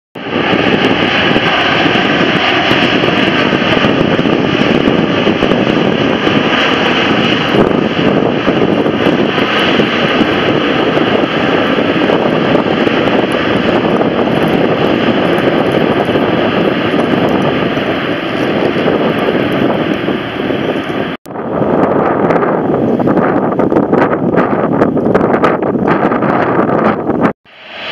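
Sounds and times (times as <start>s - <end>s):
jet engines running: 0.2s - 27.9s.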